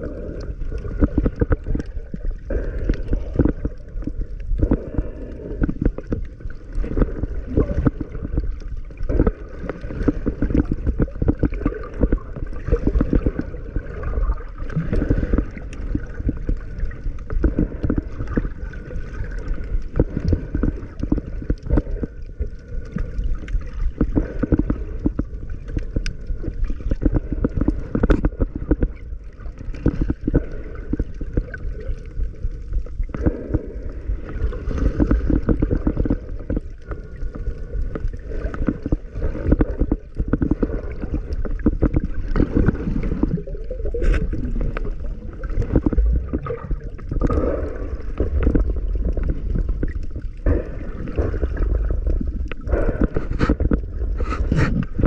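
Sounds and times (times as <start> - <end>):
underwater gurgling bubbles: 0.0 - 55.0.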